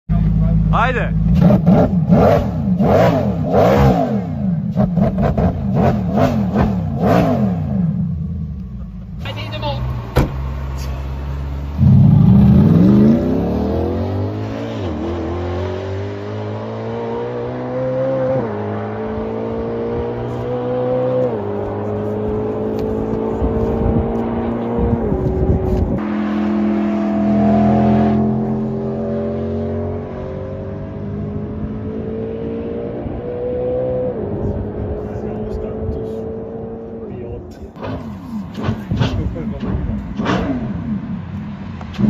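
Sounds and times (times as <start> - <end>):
car engine accelerating through gears: 1.2 - 8.9, 9.8 - 42.0.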